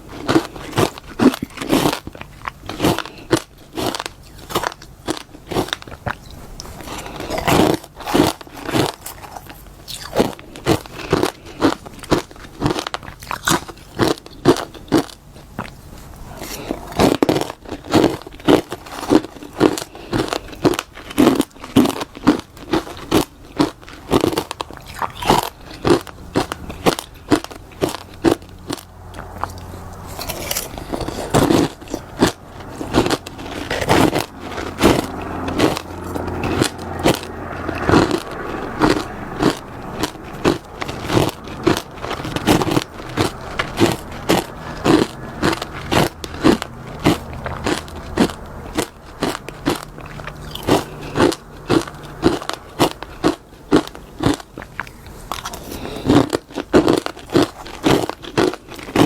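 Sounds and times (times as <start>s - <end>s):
crunching and chewing frost: 0.0s - 59.0s.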